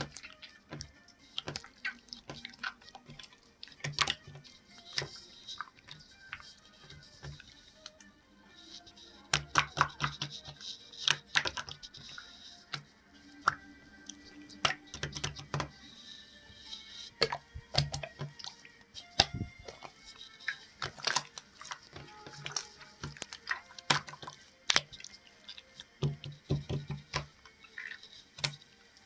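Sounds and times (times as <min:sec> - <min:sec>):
sharp clicks and taps: 0:00.0 - 0:08.1, 0:08.8 - 0:28.7.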